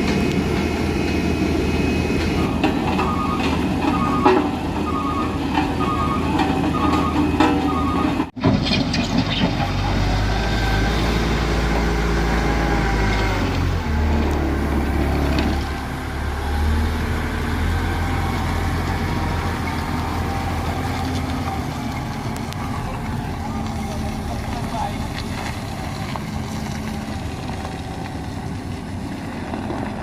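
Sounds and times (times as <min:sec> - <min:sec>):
heavy truck engine under load: 0:00.0 - 0:30.0.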